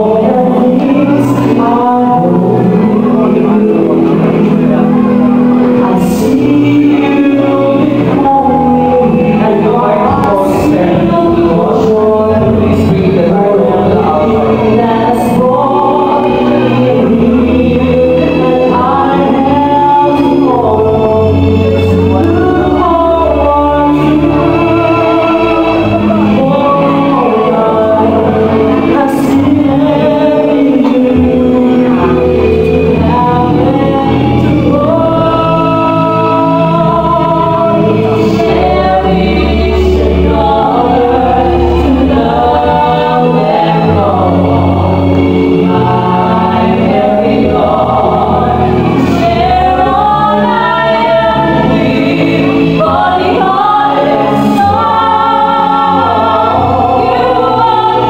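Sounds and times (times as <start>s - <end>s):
instrumental backing music: 0.0s - 58.0s.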